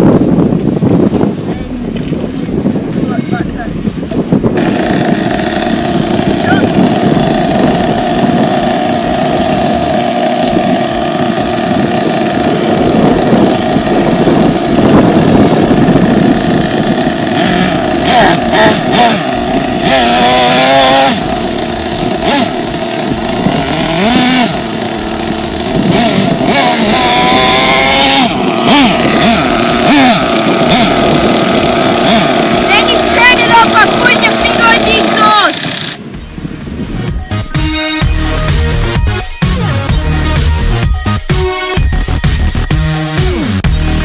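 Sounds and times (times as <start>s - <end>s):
small nitro engine buzzing: 4.2s - 44.0s.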